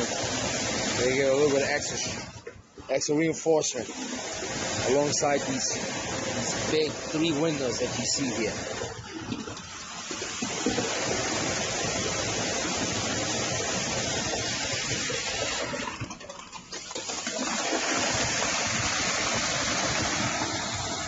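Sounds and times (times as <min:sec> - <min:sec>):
wet concrete gushing from hose: 0:00.0 - 0:21.0.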